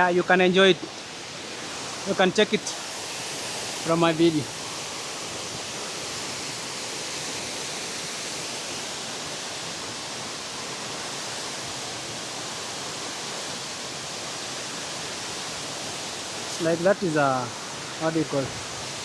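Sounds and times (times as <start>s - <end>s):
waterfall pouring into pool: 1.6s - 19.0s.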